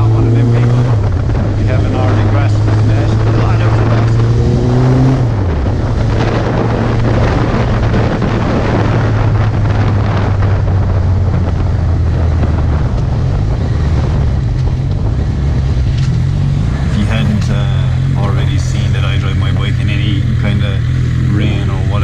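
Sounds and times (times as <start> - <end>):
motorcycle engine cruising: 0.0 - 22.0
wind buffeting microphone: 0.0 - 22.0.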